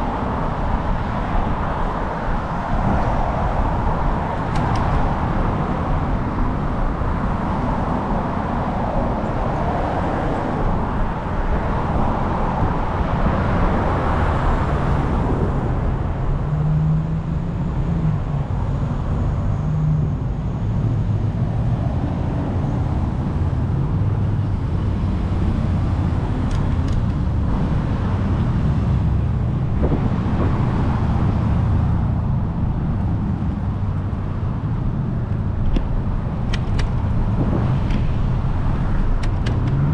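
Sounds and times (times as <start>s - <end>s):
bicycle road noise: 0.0s - 39.9s
rumbling wind: 0.0s - 39.9s
motor traffic passing: 3.4s - 39.9s.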